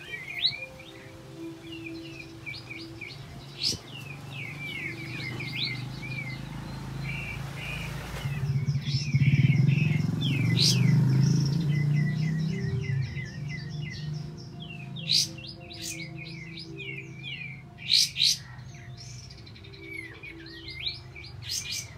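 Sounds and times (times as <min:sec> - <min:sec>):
songbird singing chirps and whistles: 0:00.0 - 0:21.9.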